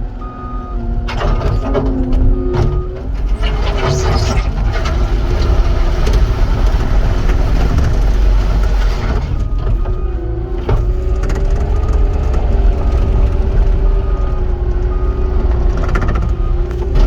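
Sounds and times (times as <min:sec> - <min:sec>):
skid steer diesel engine running: 0:00.0 - 0:17.0.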